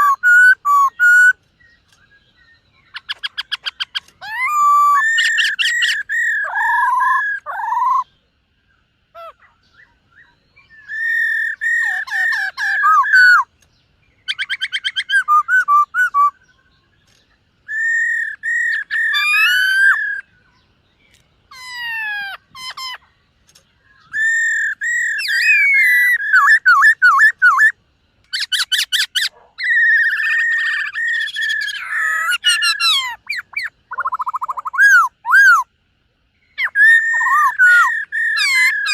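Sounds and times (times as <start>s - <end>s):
bird singing whistled phrases: 0.0s - 8.2s, 9.2s - 13.5s, 14.2s - 16.9s, 17.6s - 20.6s, 23.9s - 35.7s, 36.5s - 38.9s.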